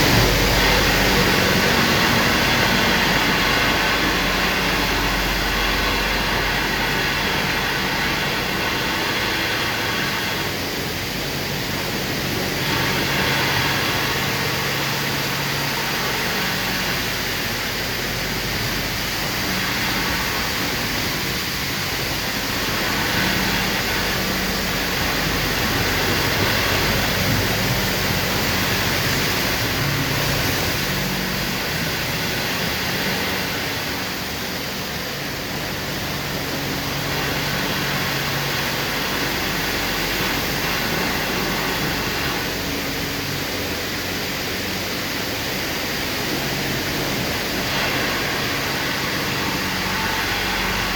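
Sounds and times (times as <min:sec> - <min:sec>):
low machinery hum: 0:00.0 - 0:50.9
rushing spray or air: 0:00.0 - 0:50.9.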